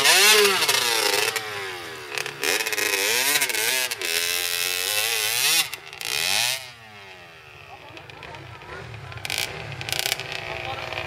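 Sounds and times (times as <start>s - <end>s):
wheel spinning in loose dirt: 0.0s - 6.8s, 7.7s - 11.0s
dirt bike engine revving: 0.0s - 11.0s.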